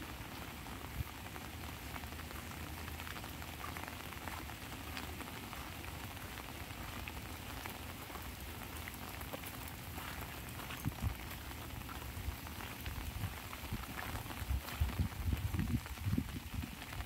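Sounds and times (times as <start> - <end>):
rain pattering on umbrella: 0.0 - 17.0.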